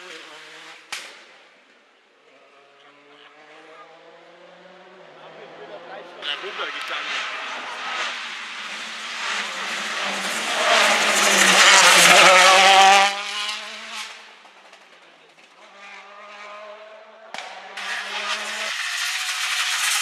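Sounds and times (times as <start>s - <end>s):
rally car engine passing: 0.0s - 1.4s, 2.2s - 20.0s.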